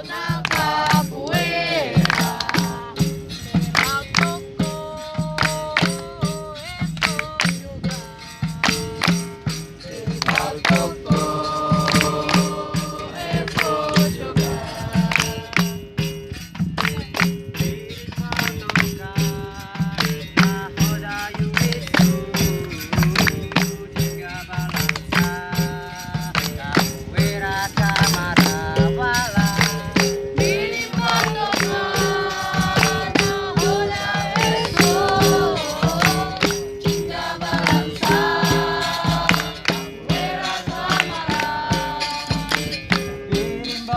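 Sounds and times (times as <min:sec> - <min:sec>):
berimbau: 0:00.0 - 0:43.9
people singing: 0:00.0 - 0:43.9
tambourine rhythm: 0:00.0 - 0:43.9.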